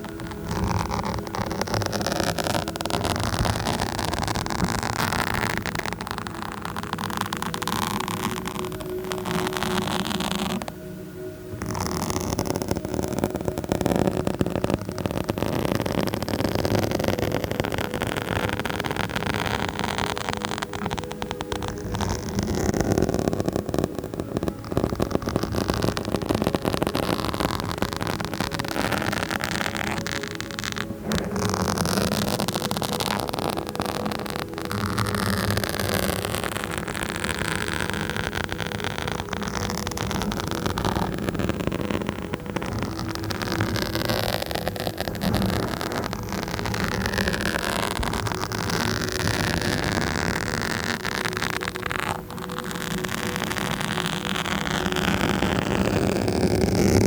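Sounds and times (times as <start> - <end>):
scratching on a microphone: 0.0 - 57.0.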